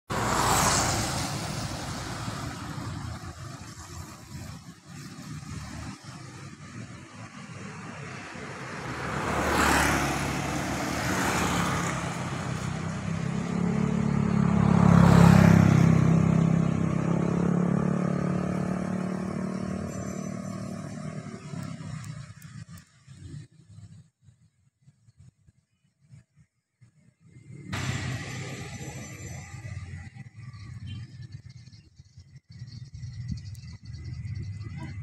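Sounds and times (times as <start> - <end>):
motorcycles passing: 0.1 - 23.9, 27.4 - 35.0.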